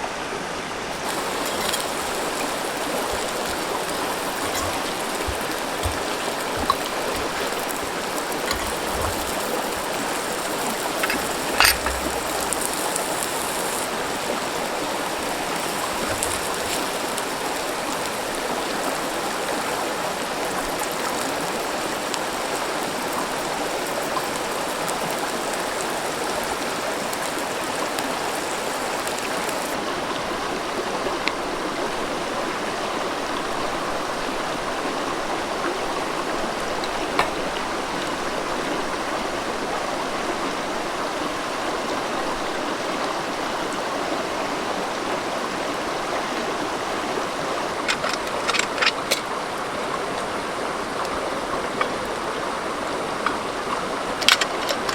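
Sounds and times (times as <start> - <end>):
river water flowing over rocks: 0.0 - 54.9.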